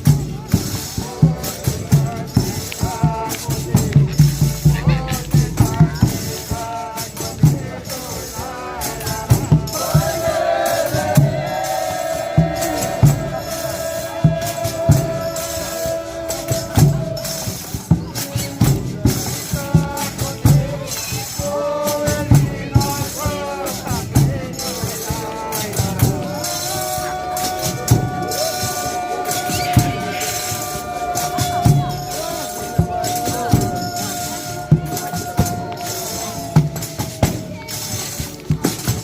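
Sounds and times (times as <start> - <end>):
steady drum beat: 0.0 - 39.0
tambourine and shakers jingling: 0.0 - 39.0
voices singing: 0.0 - 39.0.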